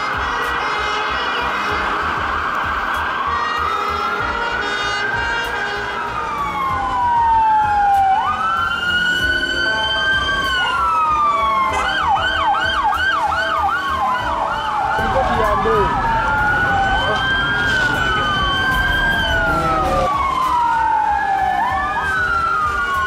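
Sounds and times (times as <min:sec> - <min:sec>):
emergency vehicle sirens wailing: 0:00.0 - 0:23.0.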